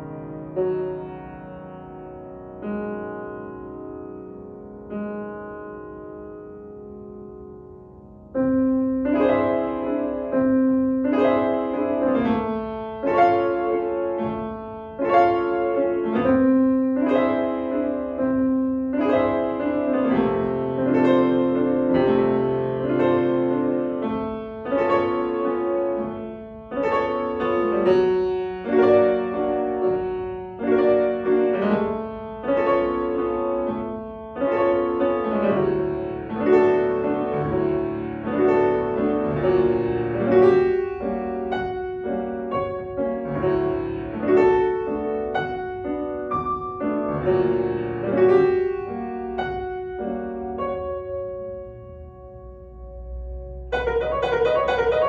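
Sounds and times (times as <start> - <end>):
solo piano classical piece: 0.0 - 55.0.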